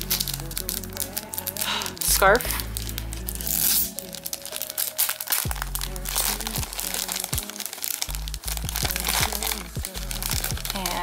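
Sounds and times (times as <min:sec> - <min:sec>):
background music with bass line: 0:00.0 - 0:11.0
plastic bag crinkling: 0:00.0 - 0:11.0.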